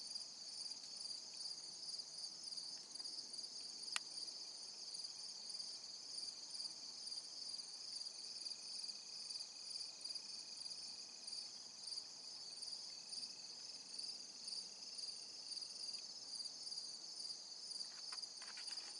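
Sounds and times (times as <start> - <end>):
insects chirring: 0.0 - 18.9.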